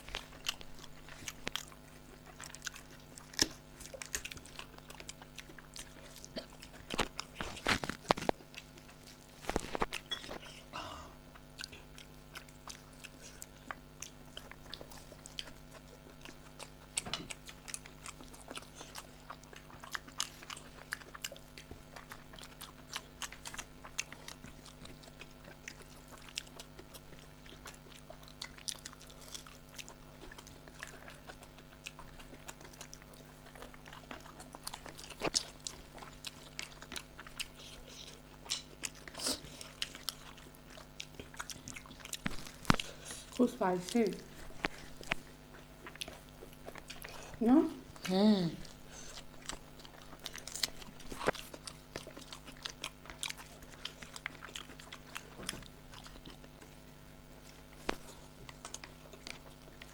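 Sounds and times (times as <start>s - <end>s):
low background hum: 0.0s - 59.9s
people chewing food: 0.0s - 59.9s.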